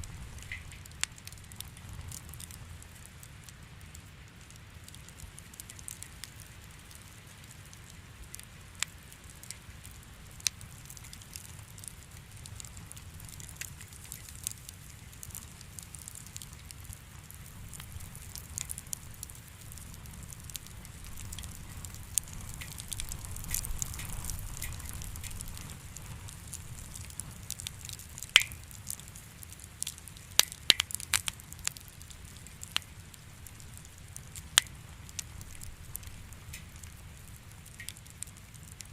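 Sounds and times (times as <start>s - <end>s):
sharp pops of fire: 0.0s - 38.9s
wood fire crackling: 0.0s - 38.9s.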